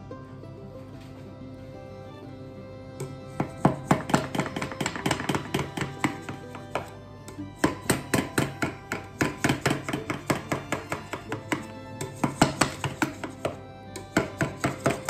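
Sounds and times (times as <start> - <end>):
plucked-string tune: 0.0 - 15.0.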